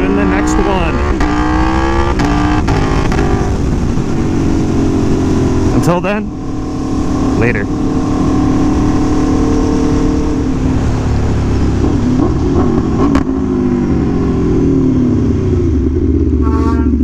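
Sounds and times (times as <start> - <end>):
wind noise: 0.0 - 17.0.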